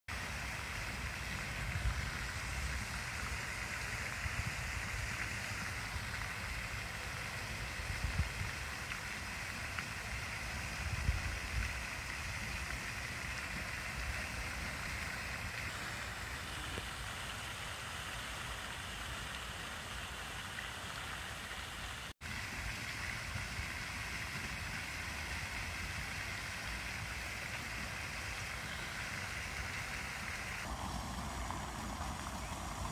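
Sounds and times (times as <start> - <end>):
fountain water spraying: 0.1 - 32.9.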